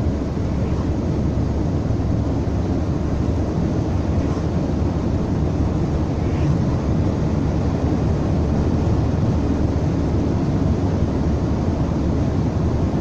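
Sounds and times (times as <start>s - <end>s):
truck cab rumble: 0.0s - 13.0s.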